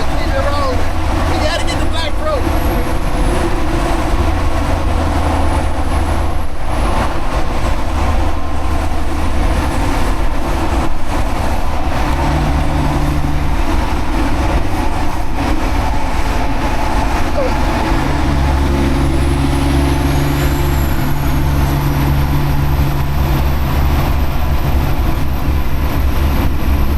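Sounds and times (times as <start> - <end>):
road noise: 0.0 - 26.9
truck diesel engine running: 0.0 - 26.9.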